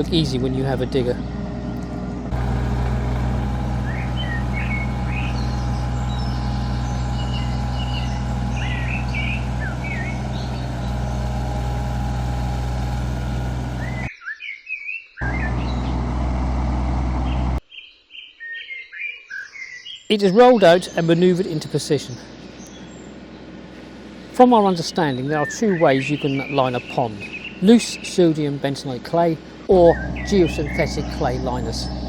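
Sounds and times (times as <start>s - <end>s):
diesel engine running: 0.0s - 14.1s, 15.2s - 17.6s, 20.8s - 32.0s
birds singing: 0.0s - 32.0s.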